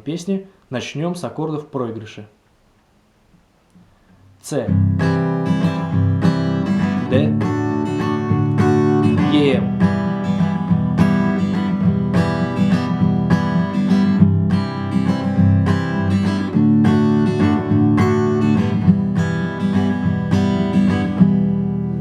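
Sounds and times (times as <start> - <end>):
acoustic guitar strumming chords: 4.1 - 22.0.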